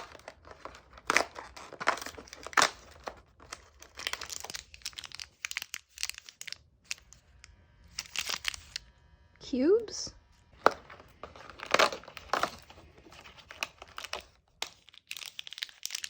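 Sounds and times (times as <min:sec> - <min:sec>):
plastic wrapper crinkling and tearing: 0:00.0 - 0:08.9, 0:10.6 - 0:16.0.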